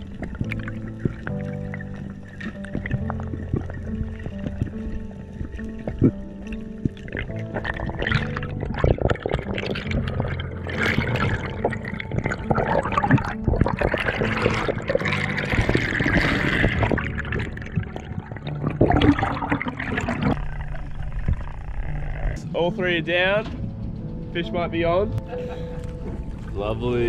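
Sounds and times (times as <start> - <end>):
water rushing underwater: 0.0 - 22.4.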